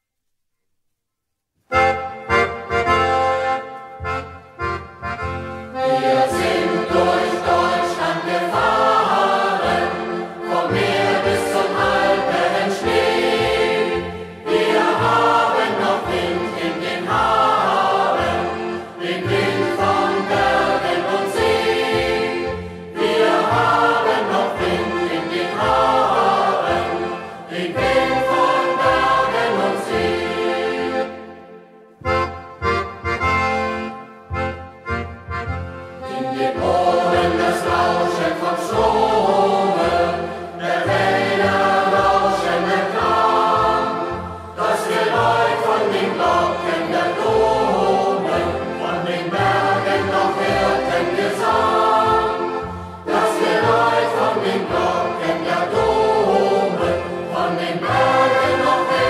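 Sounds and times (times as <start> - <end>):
accordion: 1.6 - 59.0
youth choir singing: 5.8 - 31.3, 36.0 - 59.0.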